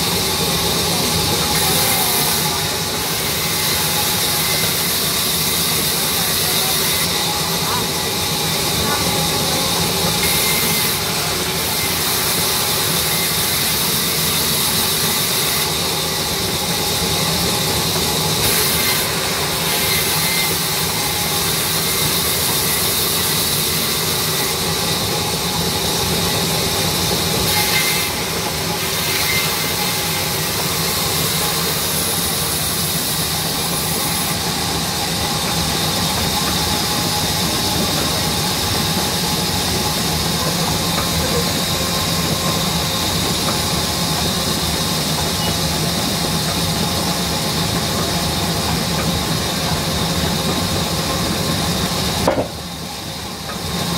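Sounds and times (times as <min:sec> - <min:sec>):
band saw cutting log: 0:00.0 - 0:53.9.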